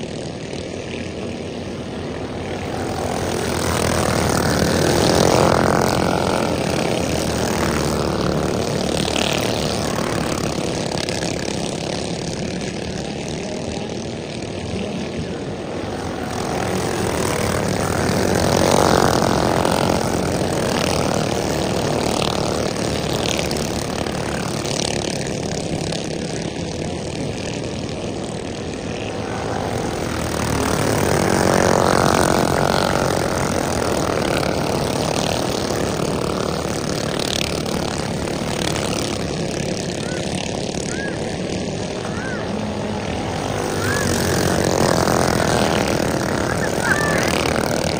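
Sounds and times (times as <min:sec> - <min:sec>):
go-kart engines droning: 0:00.0 - 0:47.9.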